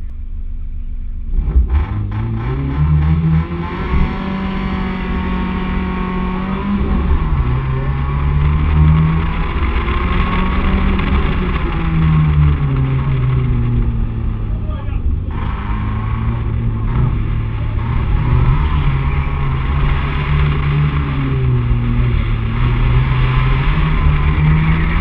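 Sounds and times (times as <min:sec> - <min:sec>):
car engine accelerating hard: 0:01.2 - 0:25.0.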